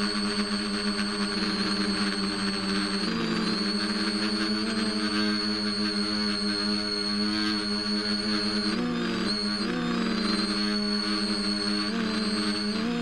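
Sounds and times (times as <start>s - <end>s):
electric motor propeller whine: 0.0s - 13.0s.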